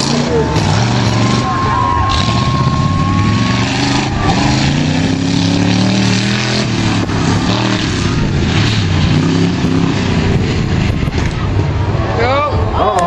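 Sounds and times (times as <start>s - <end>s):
competition vehicle engines revving: 0.0s - 13.0s.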